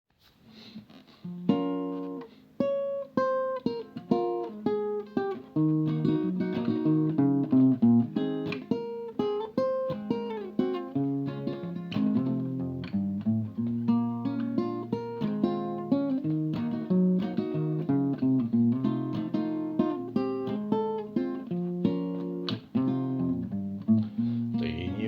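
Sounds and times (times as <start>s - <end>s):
acoustic guitar picked melody: 0.5s - 25.0s.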